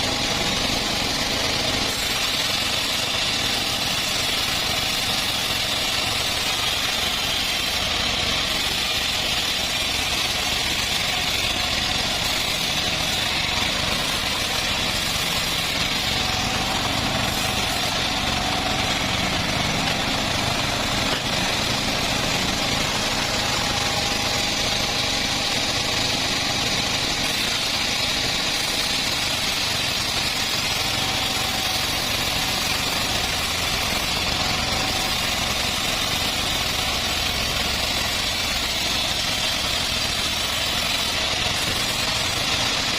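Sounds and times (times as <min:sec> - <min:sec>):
bandsaw sawmill engine drone: 0:00.0 - 0:42.9.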